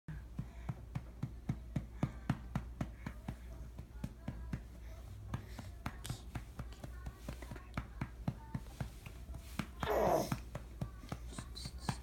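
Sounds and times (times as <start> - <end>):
hand patting baby's back: 0.3 - 12.0.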